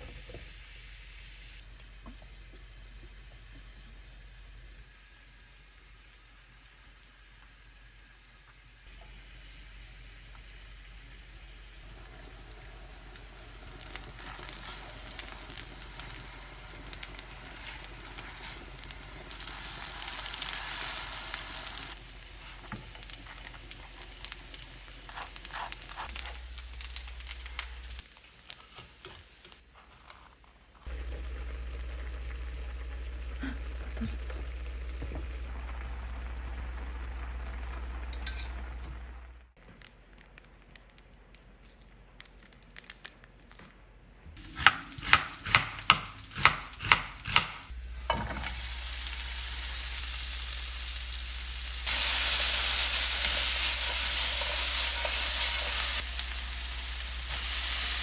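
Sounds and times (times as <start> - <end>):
food frying in oil: 0.0 - 39.6, 44.4 - 58.0.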